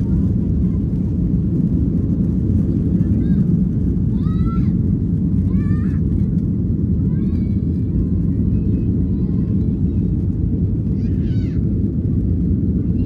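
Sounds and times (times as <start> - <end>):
faint voices: 0.0 - 12.2
airliner engines rumbling: 0.0 - 13.0.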